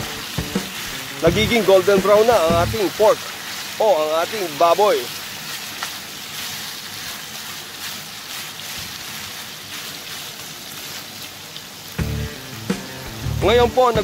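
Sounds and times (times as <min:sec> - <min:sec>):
pork sizzling in a pan: 0:00.0 - 0:14.0.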